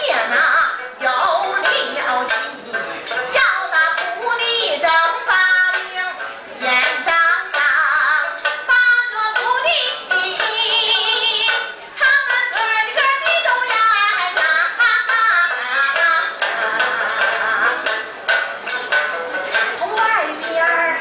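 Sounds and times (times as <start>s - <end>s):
woman singing folk song: 0.0s - 2.6s, 3.3s - 17.8s, 19.8s - 21.0s.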